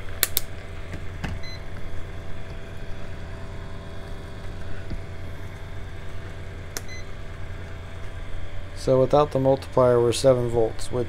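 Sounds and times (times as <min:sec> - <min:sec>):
disc motor pulsing hum: 0:00.0 - 0:11.0.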